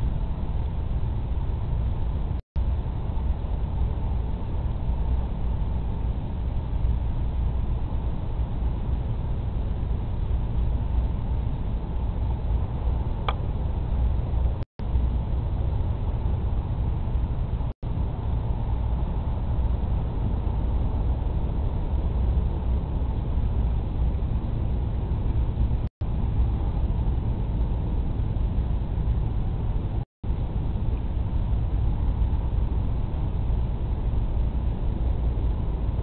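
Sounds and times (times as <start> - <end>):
faint steady hum: 0.0 - 36.0
wind buffeting a microphone: 0.0 - 36.0.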